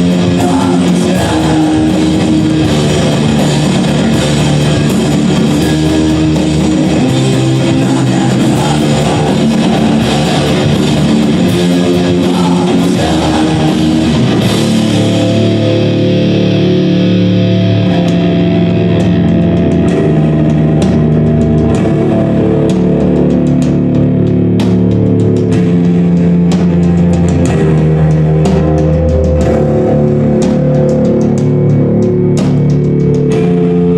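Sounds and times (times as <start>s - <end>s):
live rock band playing: 0.0s - 33.9s.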